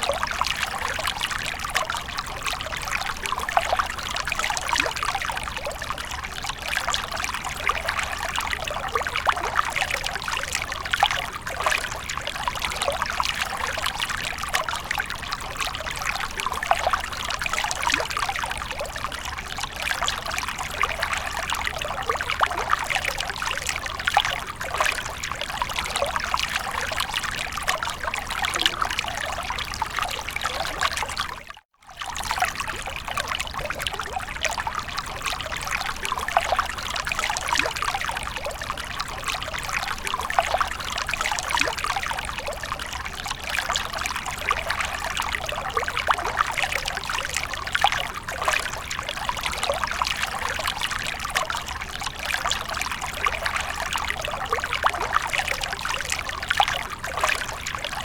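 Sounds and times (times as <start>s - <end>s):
water fountain trickling: 0.0s - 58.0s.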